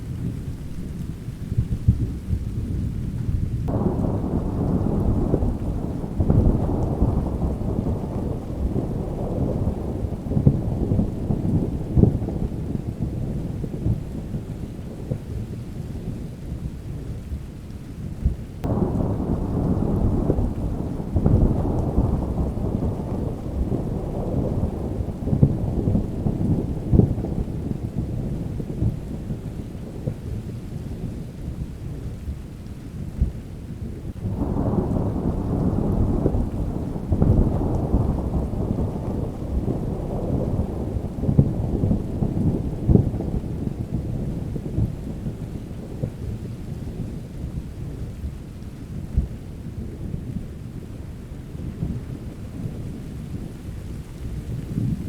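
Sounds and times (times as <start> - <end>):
rolling thunder: 0.0 - 17.4, 18.1 - 55.0
rain falling: 0.0 - 55.0.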